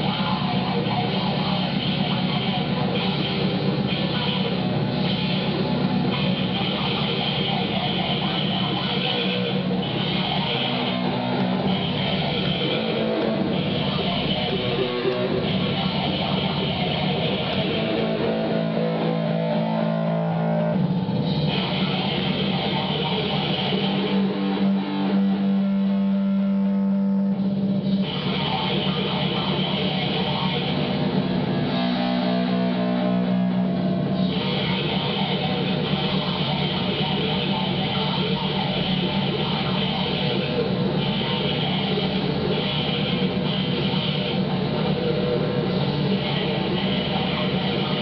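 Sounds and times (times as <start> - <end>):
distorted guitar noise: 0.0 - 48.0
low droning notes: 0.0 - 48.0.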